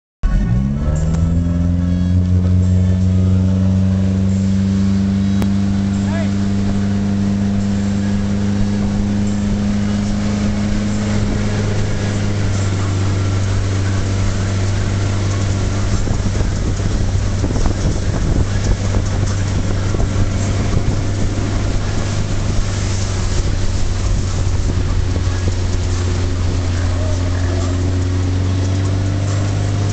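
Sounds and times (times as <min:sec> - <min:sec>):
boat engine humming: 0:00.2 - 0:29.9
rushing water: 0:00.6 - 0:29.9
wind buffeting microphone: 0:04.1 - 0:29.9.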